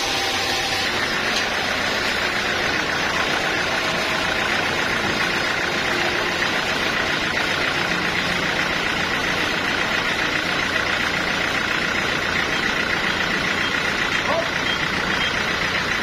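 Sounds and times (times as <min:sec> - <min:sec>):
sawmill machinery humming: 0:00.0 - 0:16.0.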